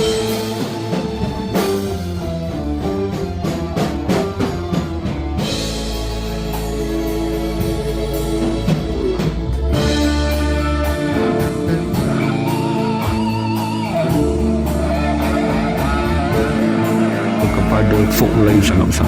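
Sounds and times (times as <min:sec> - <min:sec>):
guitar line with vibrato: 0:00.0 - 0:19.0
rock music: 0:00.0 - 0:19.0.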